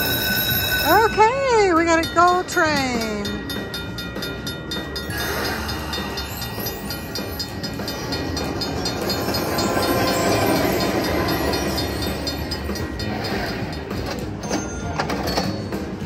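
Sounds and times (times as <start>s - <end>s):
slot machine train sound effect: 0.0s - 16.0s.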